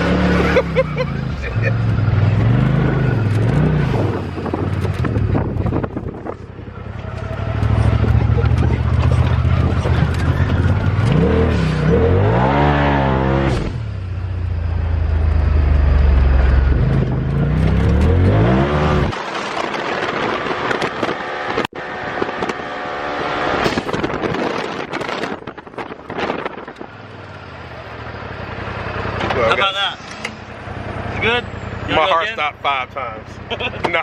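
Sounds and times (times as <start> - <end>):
utv engine revving: 0.0 - 34.0.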